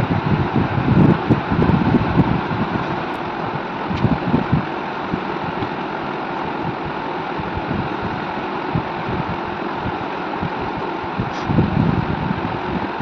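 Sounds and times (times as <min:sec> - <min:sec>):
wind buffeting microphone: 0:00.0 - 0:05.9, 0:06.5 - 0:13.0.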